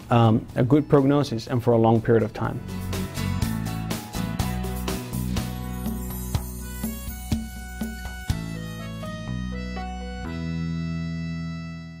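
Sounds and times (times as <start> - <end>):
background music held chord: 0.0 - 12.0.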